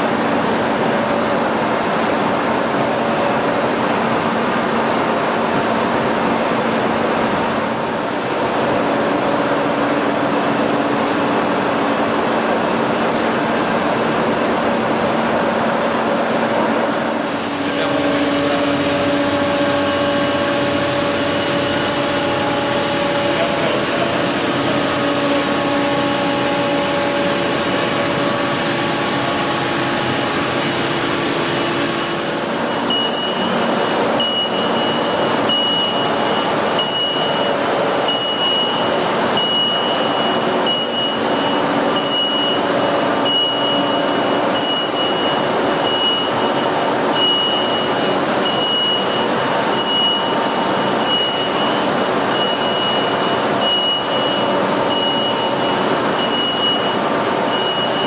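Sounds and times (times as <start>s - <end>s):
milling machine humming and whining: 0.0s - 58.0s
high on-and-off whine: 2.3s - 58.0s.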